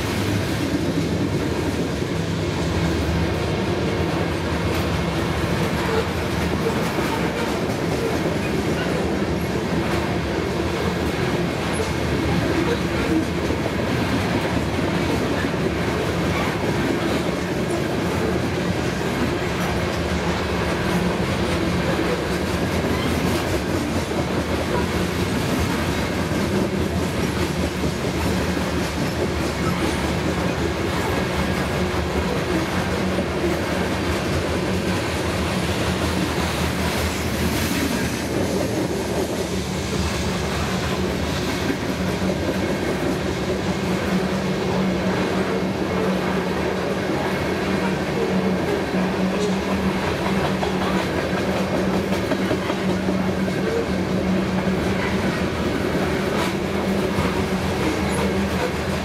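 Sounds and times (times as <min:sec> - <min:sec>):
freight train wheels rumbling and clicking: 0:00.0 - 0:59.0.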